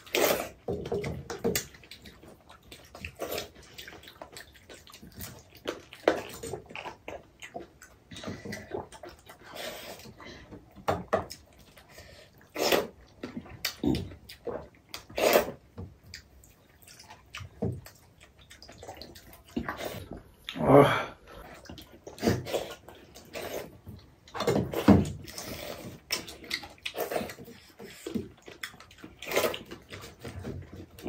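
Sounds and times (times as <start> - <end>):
wet slurping and gulping: 0.0 - 31.0.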